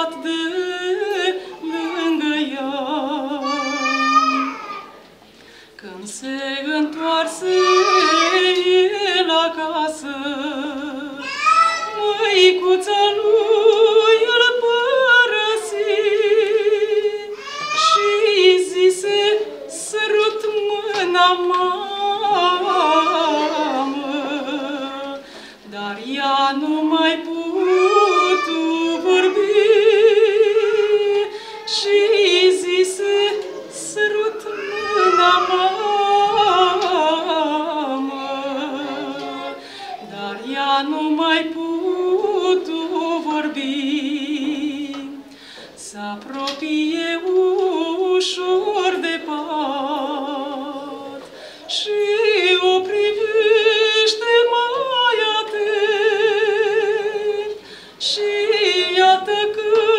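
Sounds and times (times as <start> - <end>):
woman singing devotional song: 0.0 - 4.7, 5.6 - 59.9.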